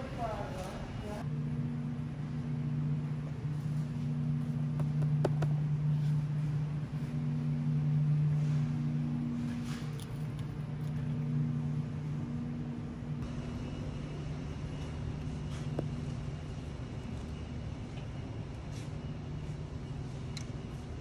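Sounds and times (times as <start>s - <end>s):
low mechanical hum of machinery: 0.0s - 21.0s.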